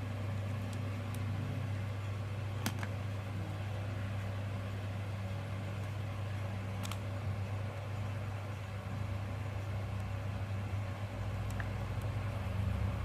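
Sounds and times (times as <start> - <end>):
low electrical fan hum: 0.0 - 13.0.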